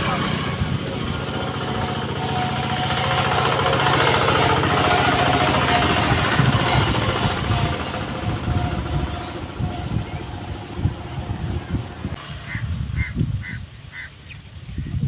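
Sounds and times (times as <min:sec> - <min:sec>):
engine running with low pulsing: 0:00.0 - 0:15.0.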